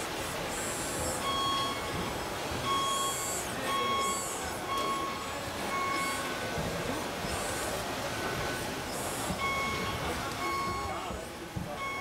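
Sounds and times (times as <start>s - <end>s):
reversing alarm beeps: 0.7s - 12.0s.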